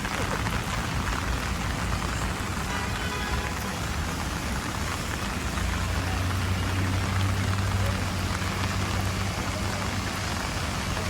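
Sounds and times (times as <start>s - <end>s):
rain splashing on ground: 0.0s - 11.0s.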